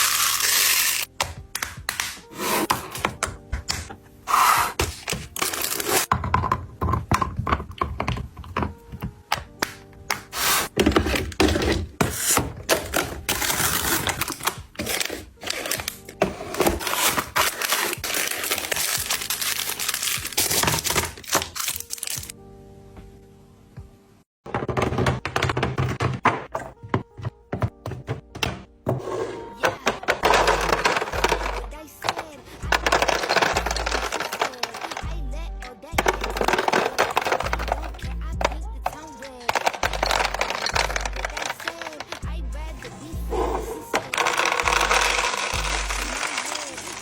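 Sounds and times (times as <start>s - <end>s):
packaged items clicking and knocking: 0.0s - 22.3s, 24.4s - 42.3s, 43.8s - 47.0s
background music: 0.0s - 47.0s.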